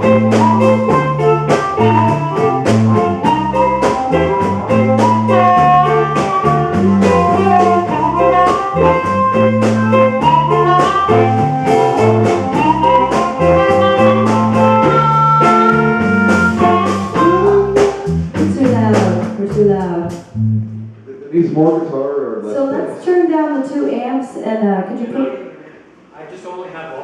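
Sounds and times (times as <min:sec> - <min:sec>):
amplified guitar lines: 0:00.0 - 0:21.7
drum kit beat: 0:00.0 - 0:21.8
bass line: 0:00.0 - 0:22.2.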